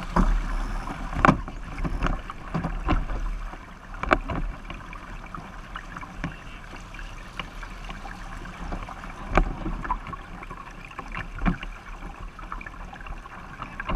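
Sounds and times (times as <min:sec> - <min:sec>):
water rushing along a hull: 0:00.0 - 0:13.9
waves slapping against a bow: 0:00.0 - 0:13.9.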